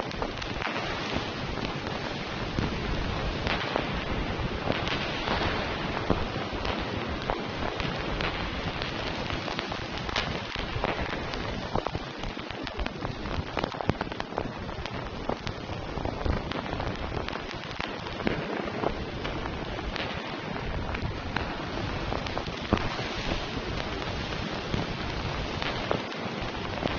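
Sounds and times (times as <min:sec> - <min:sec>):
raindrops pattering on a surface: 0:00.0 - 0:26.9
steady rain hiss: 0:00.0 - 0:26.9.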